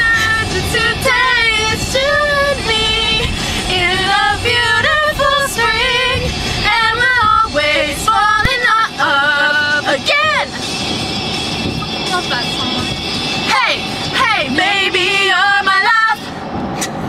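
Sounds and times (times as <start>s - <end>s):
women singing along: 0.0s - 10.9s, 13.4s - 16.3s
pop song on car stereo: 0.0s - 17.0s.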